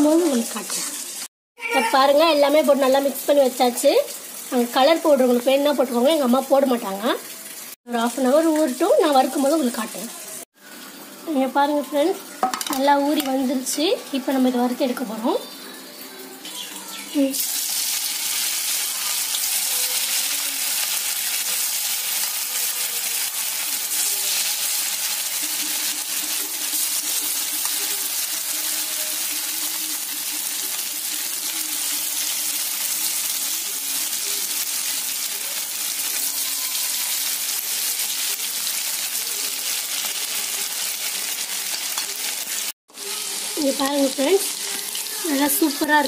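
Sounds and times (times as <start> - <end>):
chicken deep-frying in oil: 0.0 - 46.0.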